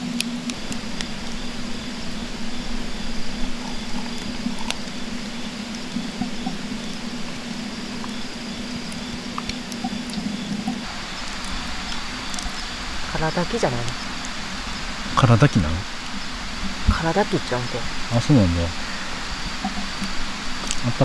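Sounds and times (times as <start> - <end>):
insect chirping: 0.0 - 21.0
low hum: 0.0 - 21.0
wood fire crackling: 0.0 - 21.0.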